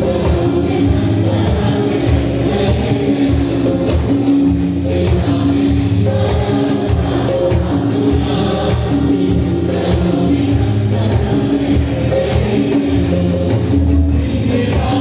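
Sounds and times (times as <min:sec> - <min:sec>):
bass guitar: 0:00.0 - 0:15.0
electronic drum pads: 0:00.0 - 0:15.0.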